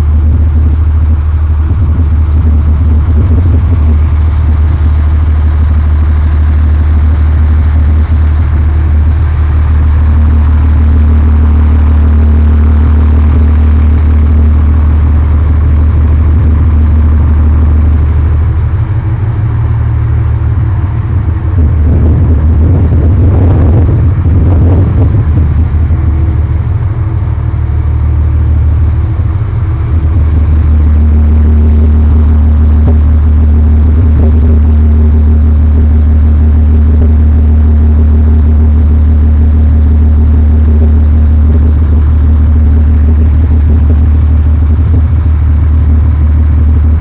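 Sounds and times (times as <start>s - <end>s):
boat engine drone: 0.0s - 47.0s.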